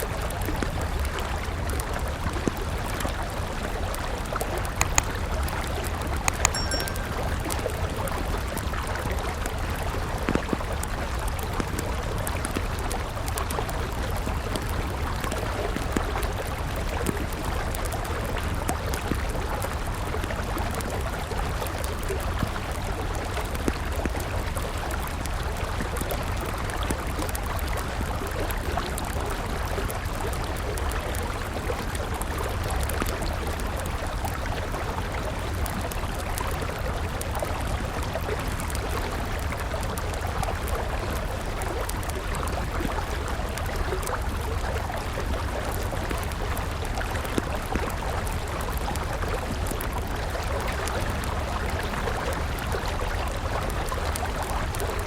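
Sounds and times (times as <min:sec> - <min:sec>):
campfire crackling: 0:00.0 - 0:55.0
river water flowing: 0:00.0 - 0:55.0.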